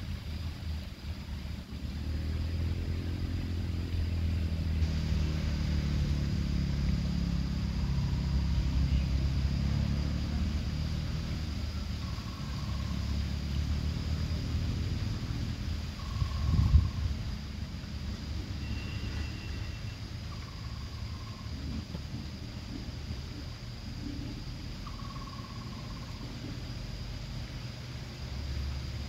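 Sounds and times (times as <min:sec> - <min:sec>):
motor vehicle engine hum: 0:00.0 - 0:29.0.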